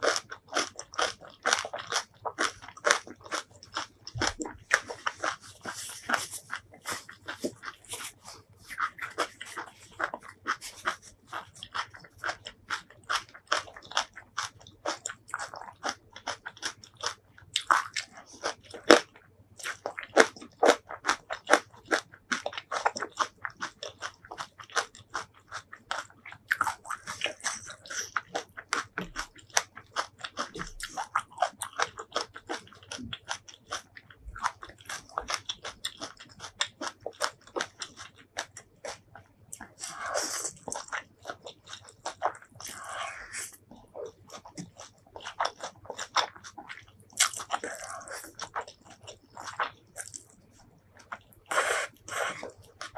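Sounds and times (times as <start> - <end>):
crunchy chewing of food: 0.0 - 52.9.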